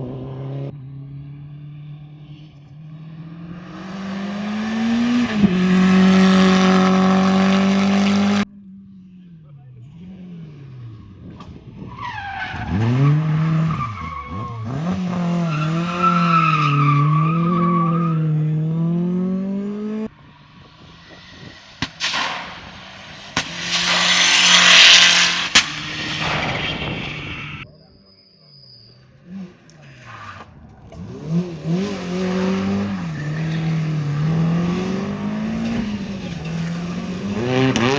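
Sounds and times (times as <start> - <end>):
rally car engine revving: 0.0 - 27.7, 28.8 - 37.9
tyres skidding: 3.1 - 8.5, 9.1 - 37.9.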